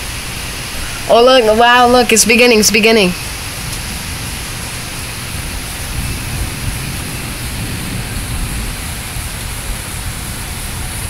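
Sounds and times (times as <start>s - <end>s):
rain on leaves: 0.0s - 11.0s.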